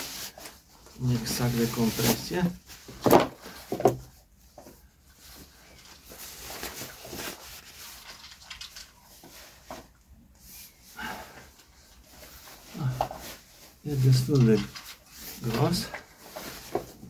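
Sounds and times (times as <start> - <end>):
nylon fabric rustling: 0.0 - 17.0.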